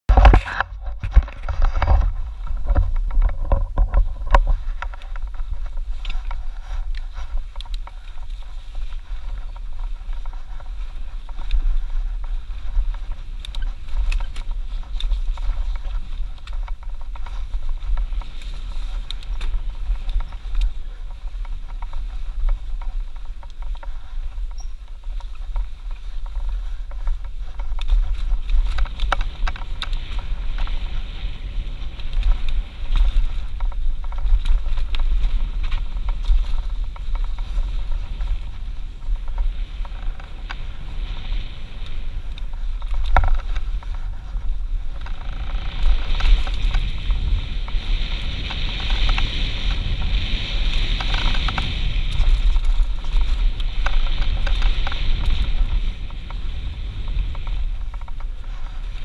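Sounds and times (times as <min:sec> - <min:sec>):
bike clicks and rattles: 0:00.1 - 0:59.0
tyre noise on dirt: 0:00.1 - 0:59.0
wind buffeting: 0:00.1 - 0:59.0.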